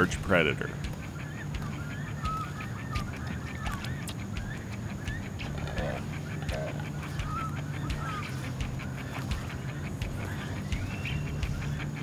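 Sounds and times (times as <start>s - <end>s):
birds honking and chirping: 0.0s - 12.0s
constant low hum: 0.0s - 12.0s.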